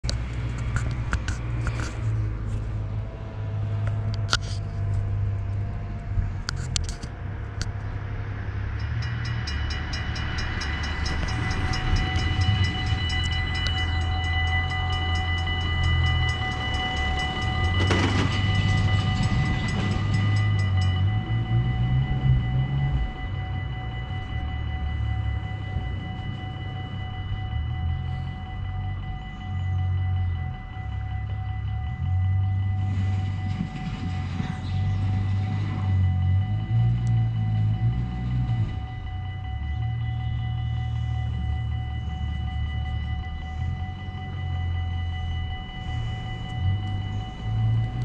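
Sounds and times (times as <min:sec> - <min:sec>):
level crossing bells ringing: 0:08.6 - 0:48.0.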